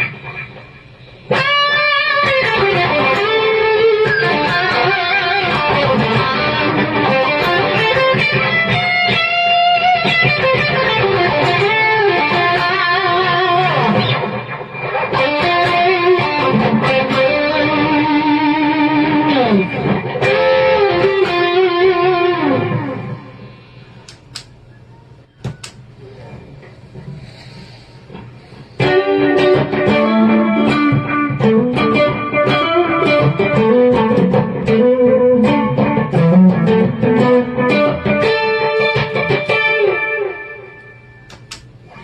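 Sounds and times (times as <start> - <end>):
distorted electric guitar lead: 0.0 - 24.3, 28.1 - 42.0.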